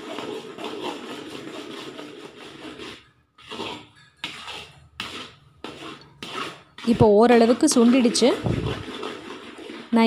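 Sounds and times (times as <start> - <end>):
metal spoon scraping a brass pan: 0.0 - 10.0.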